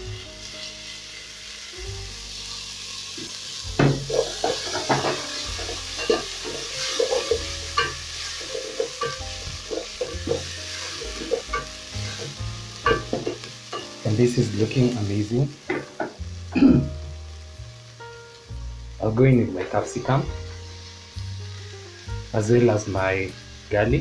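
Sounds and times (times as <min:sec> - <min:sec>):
frying sizzle: 0:00.0 - 0:24.0.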